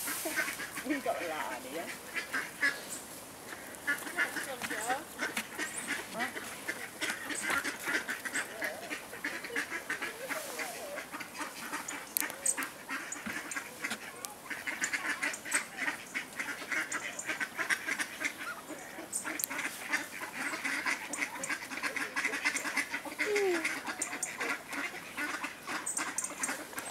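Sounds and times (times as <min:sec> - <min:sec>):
ducks and geese calling: 0:00.0 - 0:26.9.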